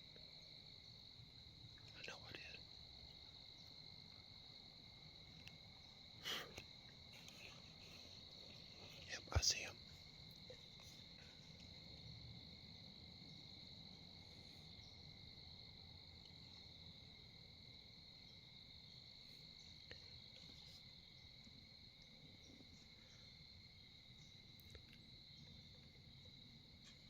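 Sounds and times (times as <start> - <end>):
cricket chorus: 0.0 - 27.0.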